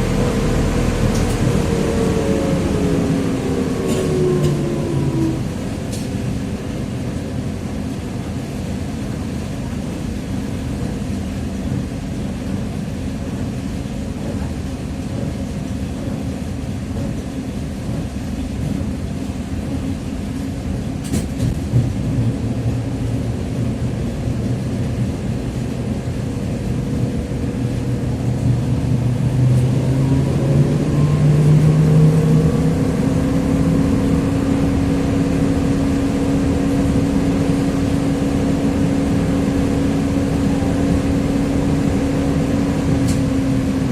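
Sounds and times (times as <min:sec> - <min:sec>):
trolleybus accelerating: 0:00.0 - 0:43.9.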